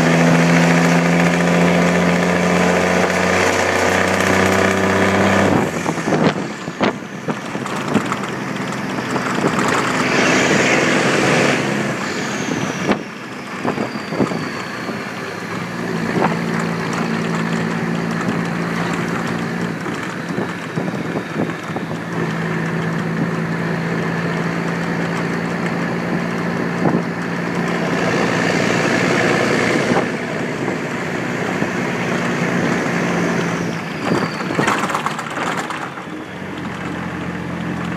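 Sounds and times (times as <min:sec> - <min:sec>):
diesel truck engine pulling uphill: 0:00.0 - 0:37.9.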